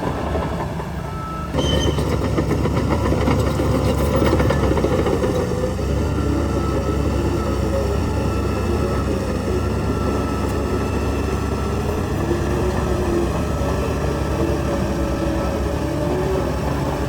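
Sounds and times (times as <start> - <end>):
diesel machinery running: 0.0 - 17.0.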